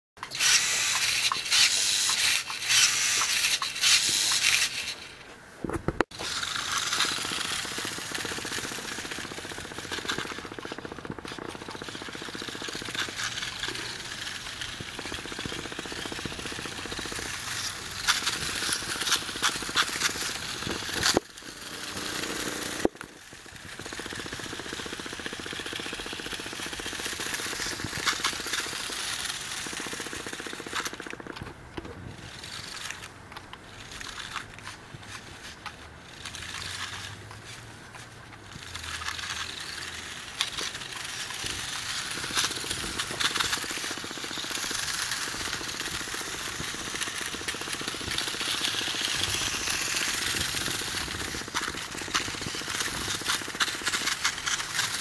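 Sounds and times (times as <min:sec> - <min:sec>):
plastic wheels on rough pavement: 0:00.2 - 0:55.0
toy motor and gears whirring: 0:00.2 - 0:55.0.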